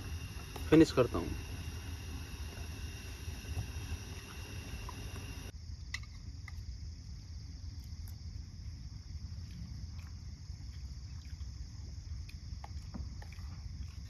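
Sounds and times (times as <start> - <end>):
continuous low rumble: 0.0 - 14.0
crickets and insects chirring: 0.0 - 14.0.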